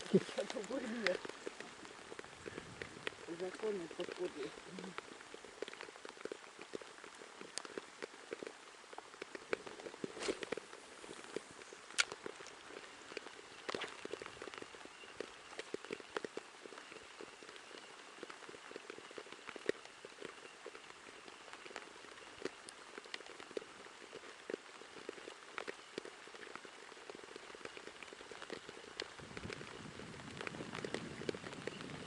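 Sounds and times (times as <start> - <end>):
light rain falling: 0.0 - 32.0
raindrop ticks: 0.0 - 32.0.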